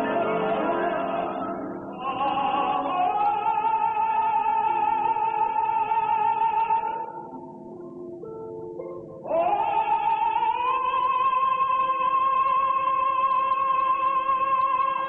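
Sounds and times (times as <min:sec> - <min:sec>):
operatic singing: 0:00.0 - 0:07.4, 0:09.2 - 0:15.0.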